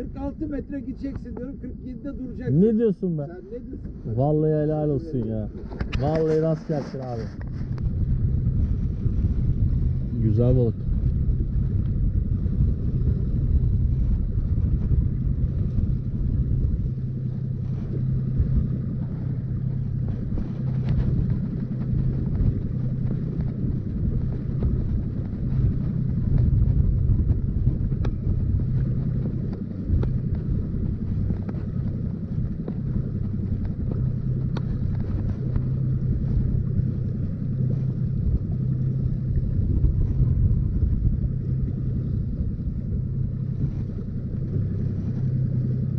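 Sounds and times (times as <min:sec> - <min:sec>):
outboard motor humming: 0:00.0 - 0:45.9
wind buffeting microphone: 0:00.0 - 0:45.9.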